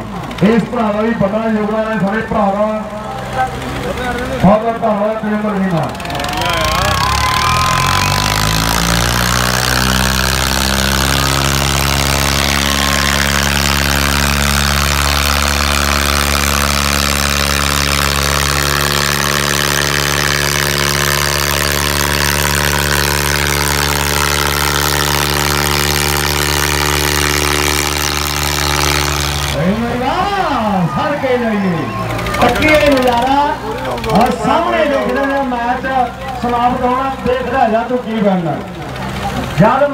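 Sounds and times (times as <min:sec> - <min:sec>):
tractor diesel engines revving: 0:00.0 - 0:39.9.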